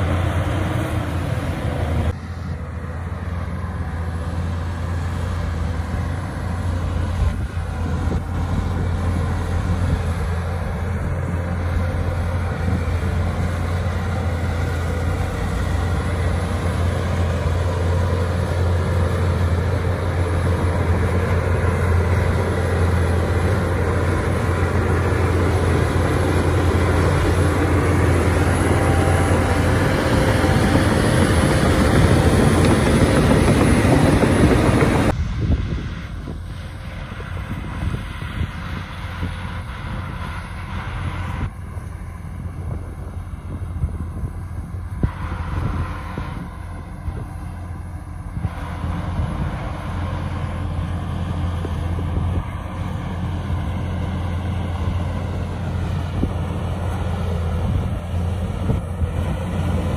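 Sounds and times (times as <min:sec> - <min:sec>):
bulldozer running under load: 0:00.0 - 0:59.9.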